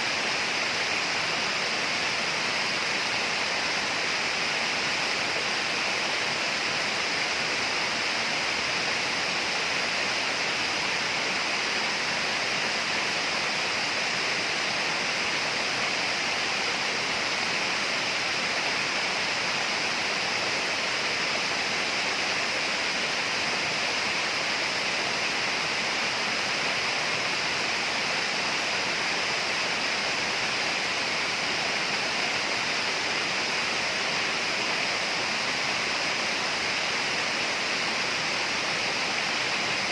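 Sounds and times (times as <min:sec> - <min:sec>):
rainforest ambience hiss: 0:00.0 - 0:39.9.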